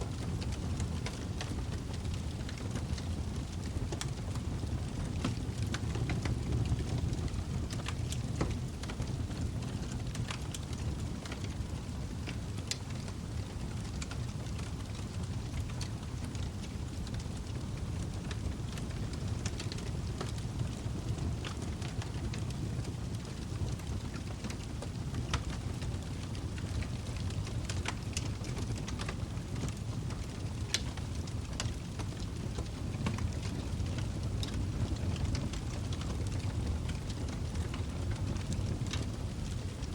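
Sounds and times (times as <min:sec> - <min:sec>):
log fire burning: 0:00.0 - 0:39.9.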